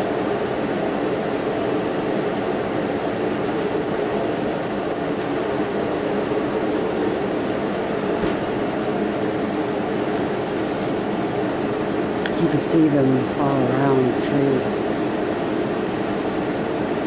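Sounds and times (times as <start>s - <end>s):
low rumbling hum: 0.0s - 17.0s.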